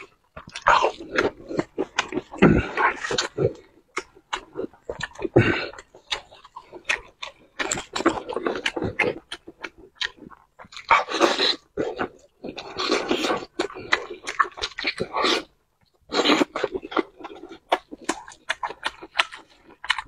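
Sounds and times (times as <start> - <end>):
wet chewing: 0.0 - 20.0.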